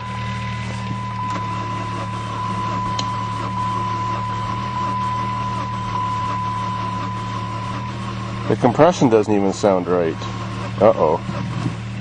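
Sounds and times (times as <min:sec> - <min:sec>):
engine cranking on starter: 0:00.0 - 0:12.0
thin high whine: 0:00.0 - 0:12.0.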